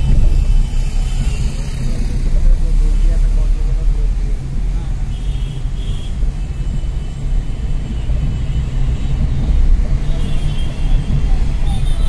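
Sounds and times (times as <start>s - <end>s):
car driving interior rumble: 0.0s - 12.0s.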